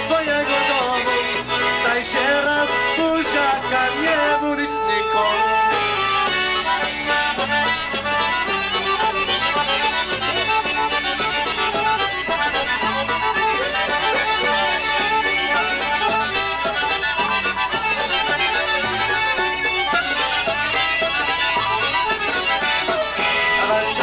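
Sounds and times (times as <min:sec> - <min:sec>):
accordion melody: 0:00.0 - 0:24.0
polka band playing: 0:00.0 - 0:24.0.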